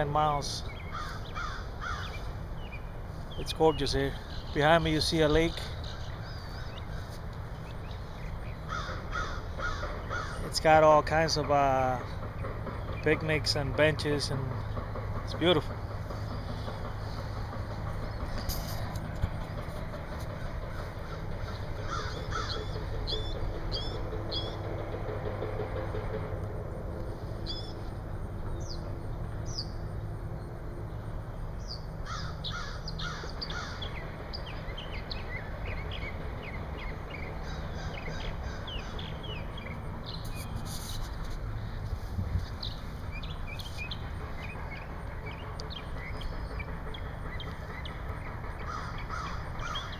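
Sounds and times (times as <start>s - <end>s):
birds chirping and calling: 0.0s - 26.3s, 27.0s - 49.9s.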